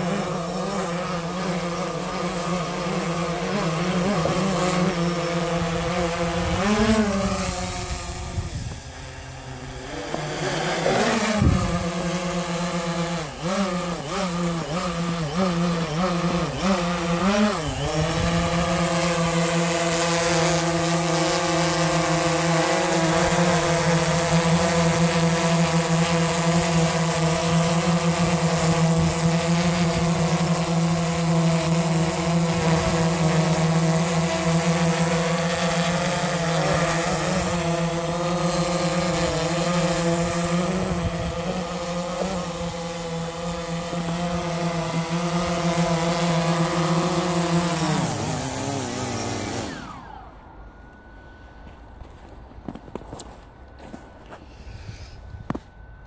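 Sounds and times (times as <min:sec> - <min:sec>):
drone propellers whistling hum: 0:00.0 - 0:56.0.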